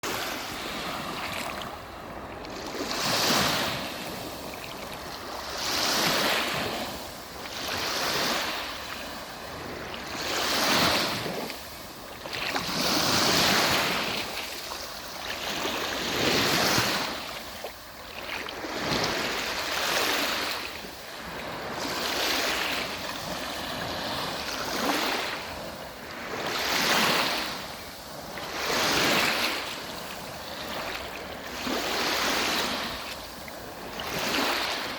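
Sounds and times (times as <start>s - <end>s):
waves breaking on shore: 0.0s - 34.9s.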